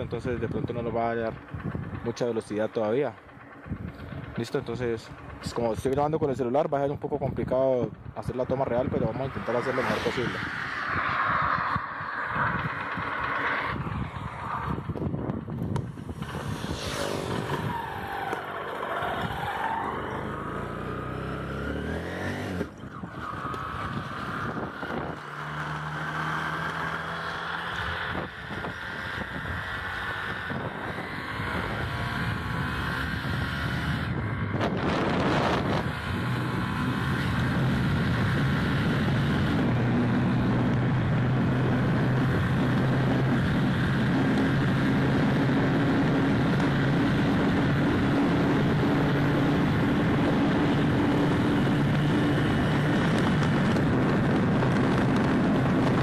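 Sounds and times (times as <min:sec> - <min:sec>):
wind noise: 0:00.0 - 0:02.2, 0:03.4 - 0:04.5, 0:06.9 - 0:20.5, 0:21.1 - 0:56.0
motorcycle engine accelerating: 0:00.0 - 0:56.0.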